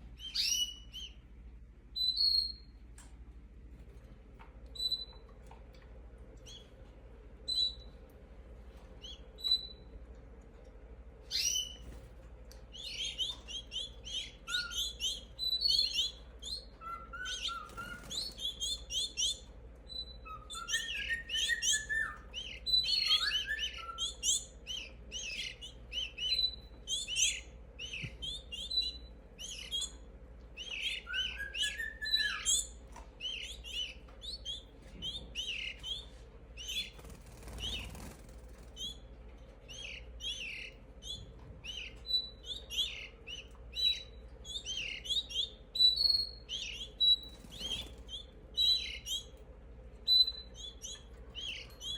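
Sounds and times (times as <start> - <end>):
young birds chirping: 0.0 - 1.3, 1.9 - 3.1, 4.6 - 5.6, 6.3 - 8.1, 8.7 - 10.2, 11.2 - 51.9.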